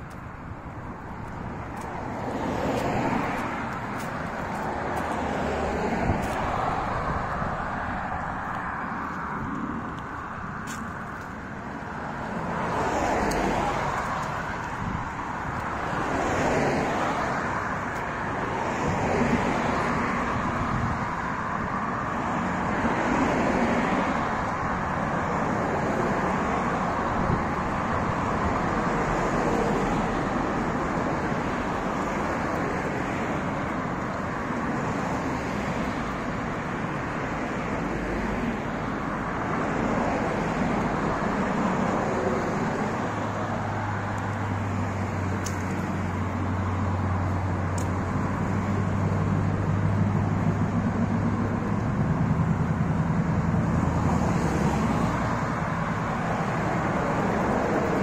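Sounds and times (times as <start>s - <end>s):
cars passing on street: 0.0s - 58.0s.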